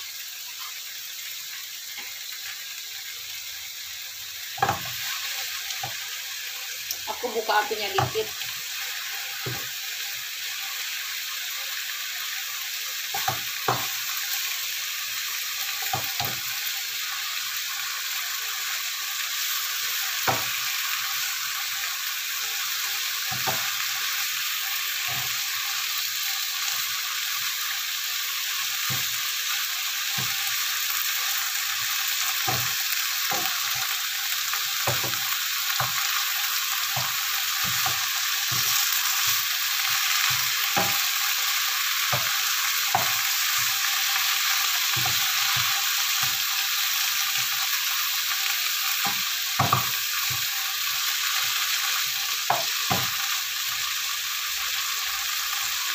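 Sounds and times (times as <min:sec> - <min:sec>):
food sizzling in frying pan: 0:00.0 - 0:55.9.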